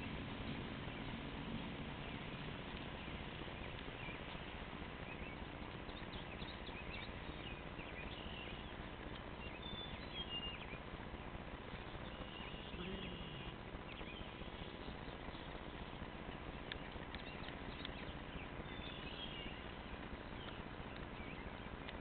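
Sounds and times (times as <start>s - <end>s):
distant birds chirping: 0.0s - 22.0s
outdoor background hiss: 0.0s - 22.0s.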